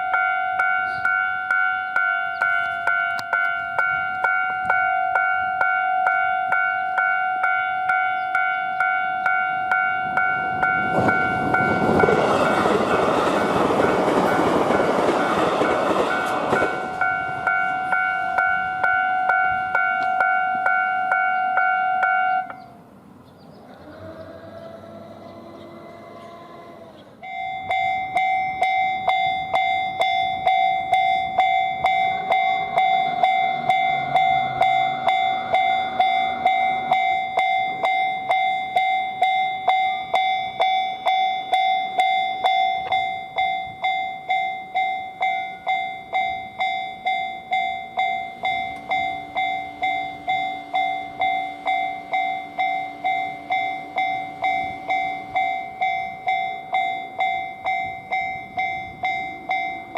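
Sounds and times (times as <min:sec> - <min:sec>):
level crossing warning bell: 0:00.0 - 0:22.8, 0:27.2 - 0:59.9.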